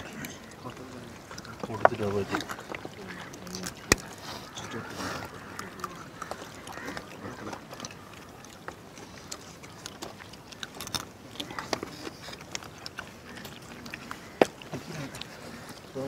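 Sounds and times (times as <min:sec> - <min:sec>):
crab shells cracking: 0:00.0 - 0:15.9.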